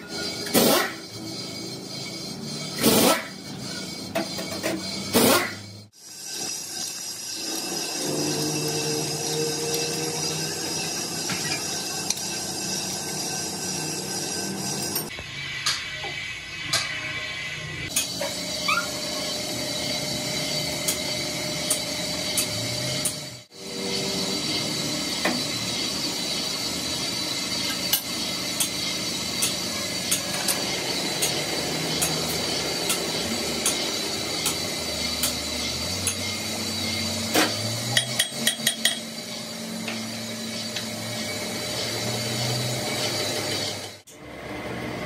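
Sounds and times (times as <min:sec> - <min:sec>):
metal lathe whining: 0:00.0 - 0:15.2, 0:17.3 - 0:45.0.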